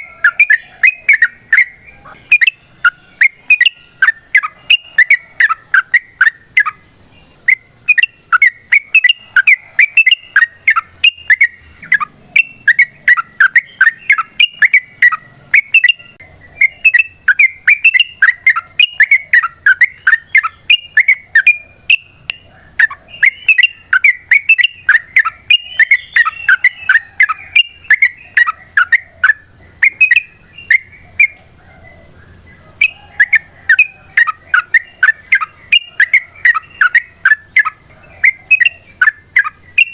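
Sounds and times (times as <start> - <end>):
bulbul singing chattering whistles: 0.0 - 39.9.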